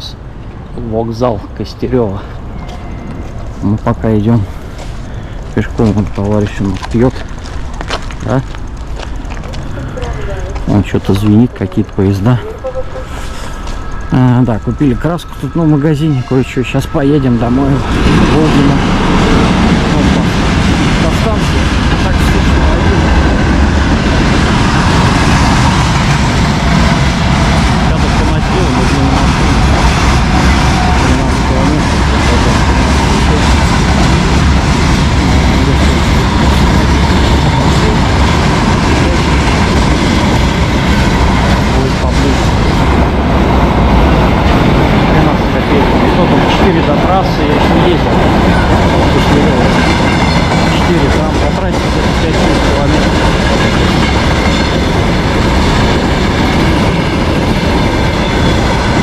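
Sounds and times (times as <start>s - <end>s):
freight train rumble: 0.0s - 59.0s
train wheels clattering on rails: 0.4s - 12.6s, 13.2s - 59.0s.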